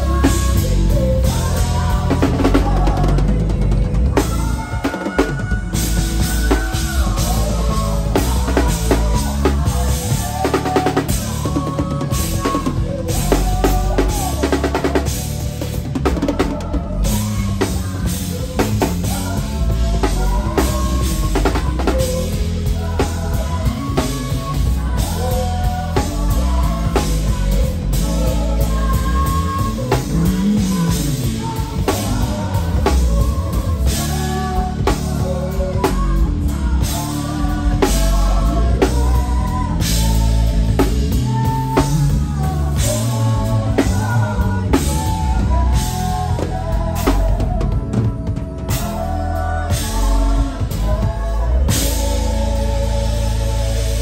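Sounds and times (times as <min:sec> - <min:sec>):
drum hits and cymbals: 0:00.0 - 0:54.0
live band music: 0:00.0 - 0:54.0
person singing: 0:00.0 - 0:54.0.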